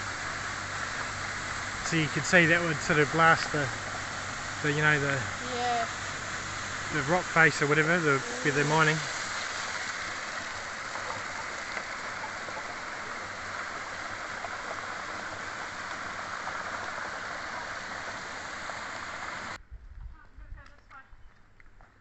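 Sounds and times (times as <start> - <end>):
high-pressure water jet hissing: 0.0 - 19.6
water rushing down rocky channel: 0.0 - 19.6.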